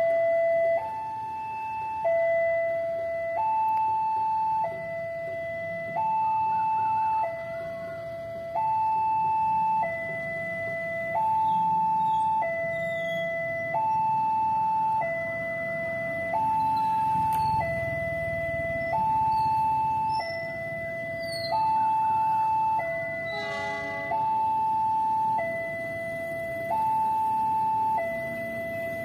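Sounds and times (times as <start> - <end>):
two-tone level crossing alarm: 0.0 - 29.0.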